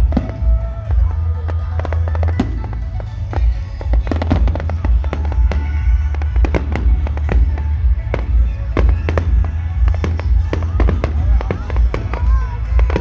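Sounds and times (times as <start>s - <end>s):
fireworks bangs and crackles: 0.0s - 13.0s
music with pulsing bass: 0.0s - 13.0s.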